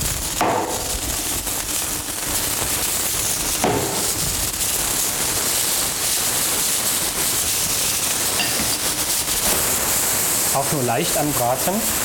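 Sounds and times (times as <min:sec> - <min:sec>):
bacon sizzling in frying pan: 0:00.0 - 0:12.0.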